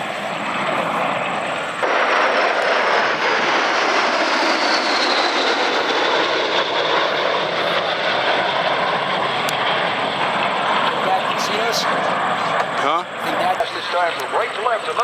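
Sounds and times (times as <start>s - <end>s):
high jet whine: 0.0s - 15.0s
jet rush: 0.0s - 15.0s.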